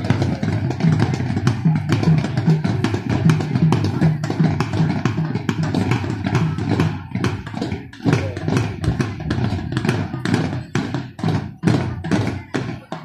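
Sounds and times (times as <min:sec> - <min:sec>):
crowd noise: 0:00.0 - 0:13.0
marching drum beats: 0:00.0 - 0:13.0.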